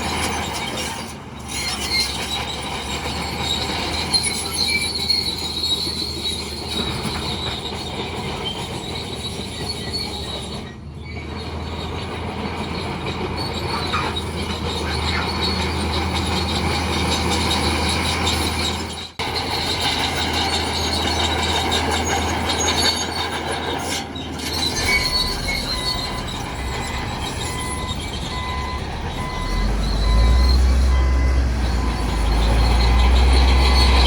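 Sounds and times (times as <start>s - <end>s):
bulldozer engine humming: 0.0s - 34.0s
steel tracks squealing and clanking: 0.0s - 34.0s.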